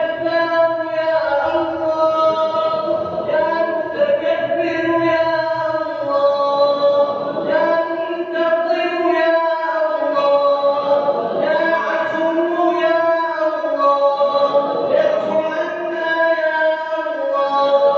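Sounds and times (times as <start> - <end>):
congregation chanting: 0.0 - 17.9.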